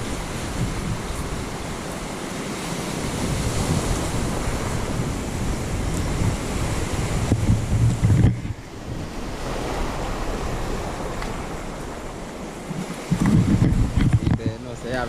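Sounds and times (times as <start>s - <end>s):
surf washing: 0.0s - 15.0s
wind gusting over microphone: 0.0s - 15.0s.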